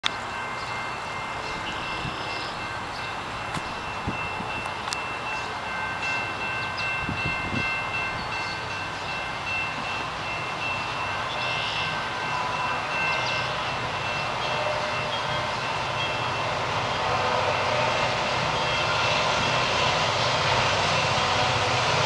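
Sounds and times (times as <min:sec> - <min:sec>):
diesel locomotive engine rumble: 0:00.0 - 0:22.0
train rail noise: 0:00.0 - 0:22.0.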